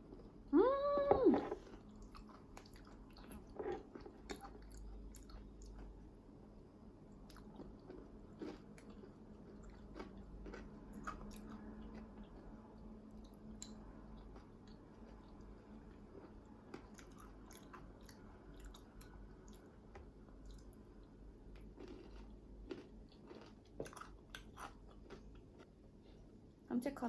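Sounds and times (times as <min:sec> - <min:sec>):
chewing crunchy granola: 0:01.2 - 0:06.1, 0:07.2 - 0:25.8.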